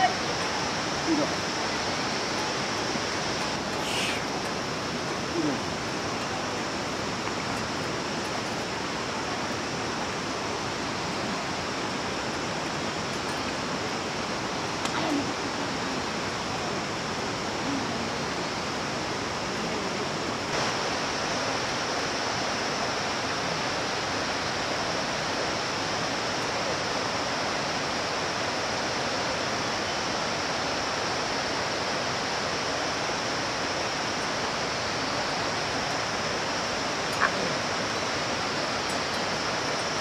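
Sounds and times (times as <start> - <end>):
steady rushing noise with hiss: 0.0 - 40.0.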